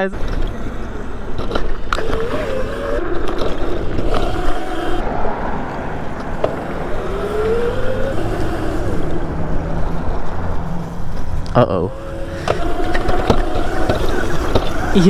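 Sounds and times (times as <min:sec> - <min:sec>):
electric motor whine: 0:00.0 - 0:05.0, 0:06.5 - 0:10.6, 0:11.6 - 0:15.0
rumble of wind and tyres: 0:00.0 - 0:15.0.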